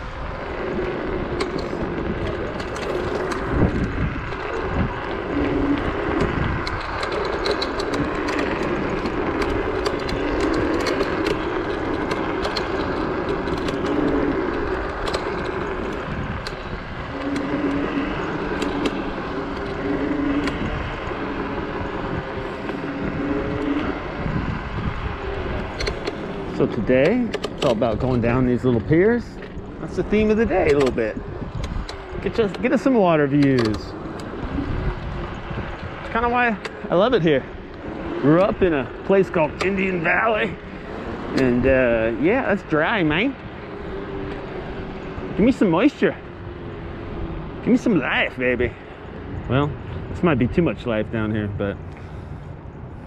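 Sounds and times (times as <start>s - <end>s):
small electric motor whining: 0.0s - 53.0s
wind rumble on microphone: 0.0s - 53.0s
sharp rattling clicks: 0.4s - 24.2s, 24.8s - 52.1s.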